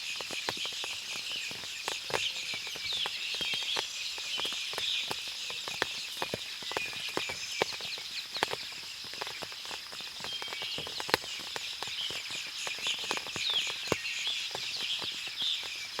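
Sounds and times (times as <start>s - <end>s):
birds chirping: 0.0s - 16.0s
water dripping from trees: 0.0s - 16.0s.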